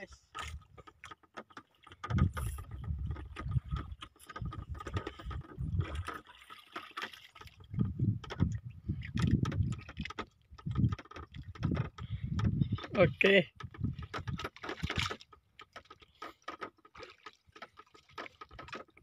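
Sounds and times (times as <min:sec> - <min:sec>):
low rumbling of water: 0:00.0 - 0:19.0
knocks and clicks: 0:00.3 - 0:19.0.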